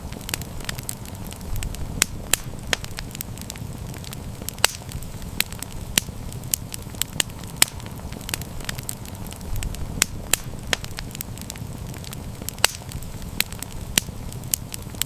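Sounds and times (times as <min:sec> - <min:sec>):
campfire flames rumbling: 0:00.0 - 0:15.0
fire crackling and popping: 0:00.0 - 0:15.0.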